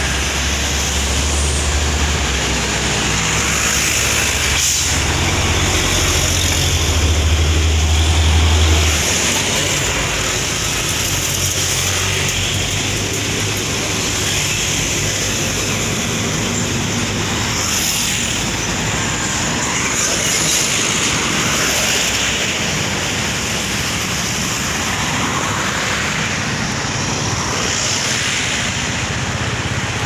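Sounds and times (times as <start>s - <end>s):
road and wind noise: 0.0s - 30.0s.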